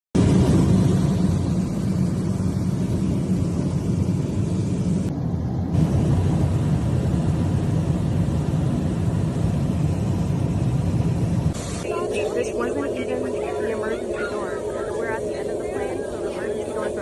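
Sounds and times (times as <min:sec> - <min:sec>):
airliner cabin roar: 0:00.2 - 0:17.0.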